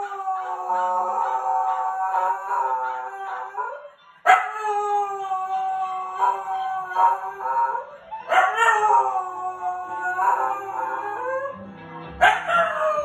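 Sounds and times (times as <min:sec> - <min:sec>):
dog howling: 0:00.0 - 0:11.6, 0:12.2 - 0:13.0.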